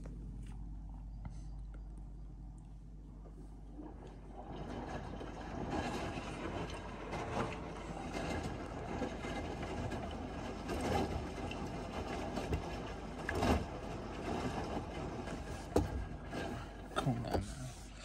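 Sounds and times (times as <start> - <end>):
washing machine water sloshing: 2.8 - 18.0.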